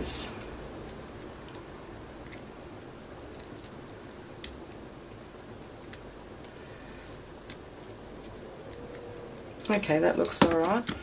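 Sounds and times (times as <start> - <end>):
low room noise: 0.0 - 11.0
beads and wire clicking: 0.4 - 11.0.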